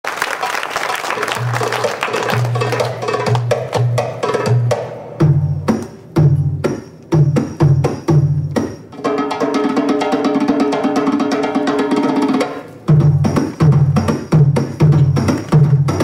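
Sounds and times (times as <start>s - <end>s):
drum solo: 1.4s - 16.0s.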